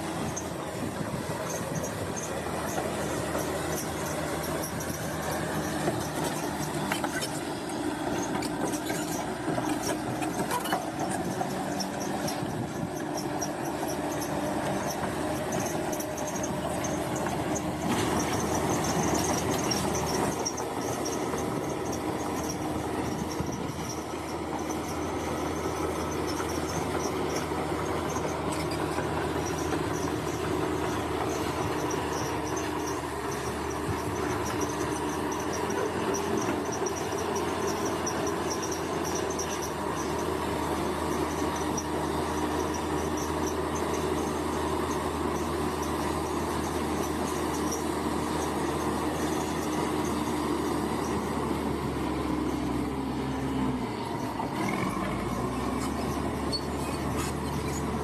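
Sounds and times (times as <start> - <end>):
high pulsing squeal: 0.0 - 51.4, 52.0 - 58.0
bulldozer diesel drone: 0.0 - 58.0.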